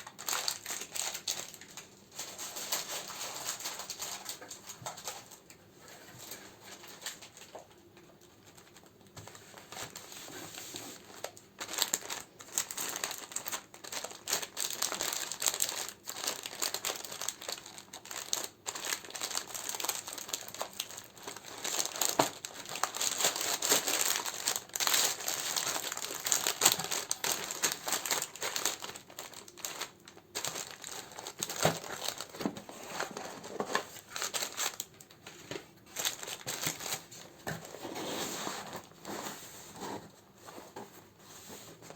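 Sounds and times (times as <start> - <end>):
packaging crinkling and rustling: 0.0 - 41.9.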